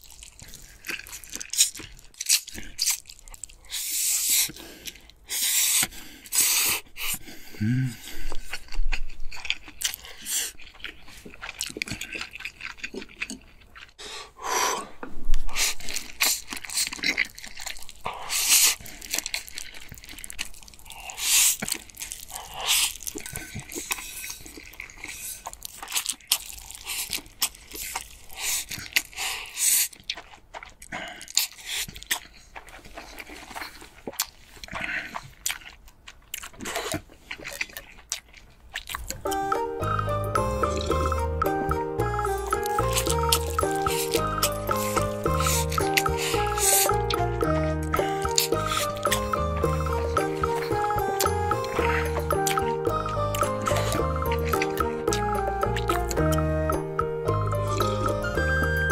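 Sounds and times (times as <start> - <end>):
slurping noodles: 0.0 - 8.8, 9.6 - 35.6, 42.6 - 56.2
chewing: 0.0 - 14.2, 14.8 - 58.9.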